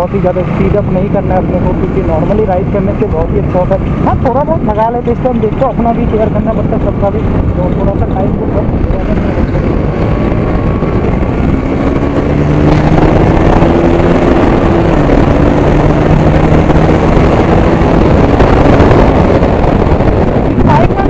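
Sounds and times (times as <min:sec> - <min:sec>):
motorcycle engine accelerating: 0:00.0 - 0:21.0
wind rush on microphone: 0:00.0 - 0:21.0.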